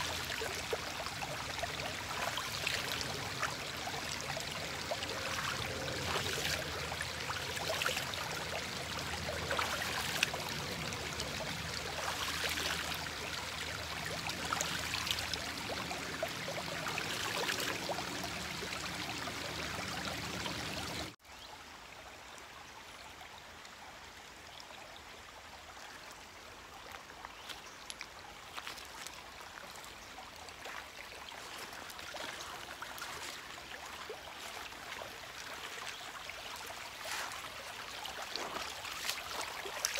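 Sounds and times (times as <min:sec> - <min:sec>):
light water splashes: 0:00.0 - 0:21.2, 0:26.1 - 0:39.9
stream water trickling: 0:00.0 - 0:39.9.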